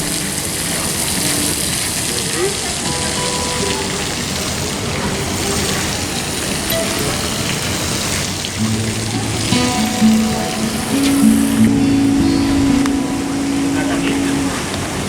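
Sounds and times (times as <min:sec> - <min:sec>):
plucked guitar tune: 0:00.0 - 0:05.1, 0:06.7 - 0:15.0
faint music: 0:00.0 - 0:15.0
water rushing and hissing: 0:00.0 - 0:15.0.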